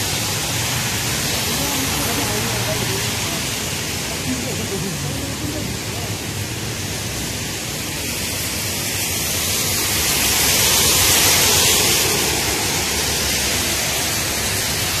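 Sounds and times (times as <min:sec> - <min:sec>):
car tyres swishing through water: 0:00.0 - 0:15.0
heavy rain on flooded street: 0:00.0 - 0:15.0.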